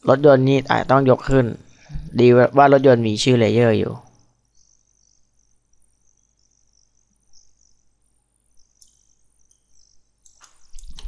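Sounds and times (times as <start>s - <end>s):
faint high-pitched hiss: 0.0s - 11.0s
low mains hum: 0.0s - 11.0s.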